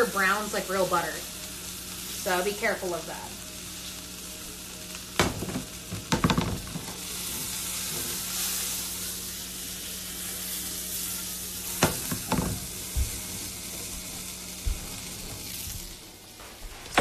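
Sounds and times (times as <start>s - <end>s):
butter sizzling in frying pan: 0.0s - 17.0s.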